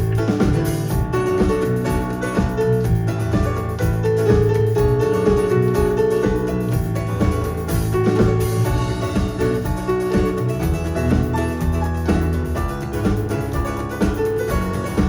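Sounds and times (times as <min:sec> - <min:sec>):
bass: 0:00.0 - 0:15.0
drum kit beat: 0:00.0 - 0:15.0
guitar: 0:00.0 - 0:15.0
piano: 0:00.0 - 0:15.0.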